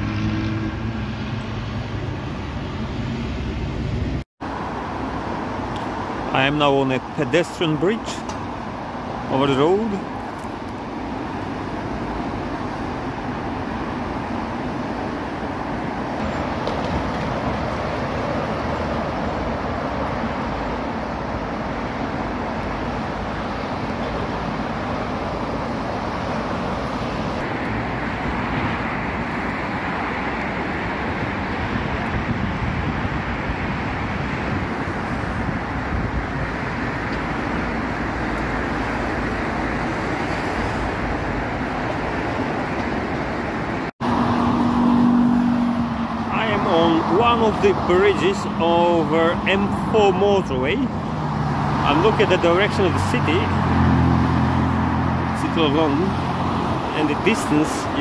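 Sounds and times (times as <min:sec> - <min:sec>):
dense motorway traffic: 0:00.0 - 0:58.0.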